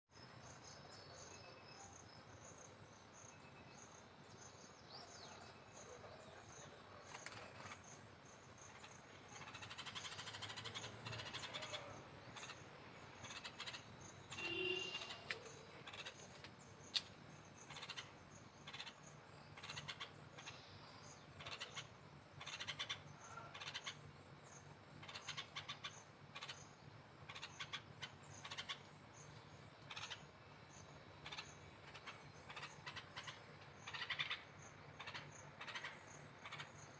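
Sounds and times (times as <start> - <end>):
faint bird chirps: 0.1 - 36.9.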